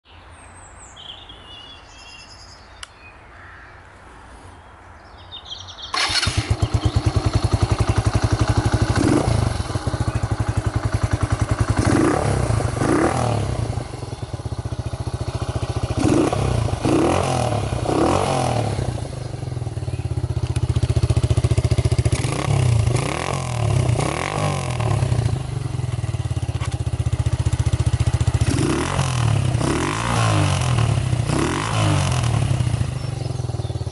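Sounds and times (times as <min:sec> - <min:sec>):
motorcycle engine starting and idling: 0:05.8 - 0:33.9.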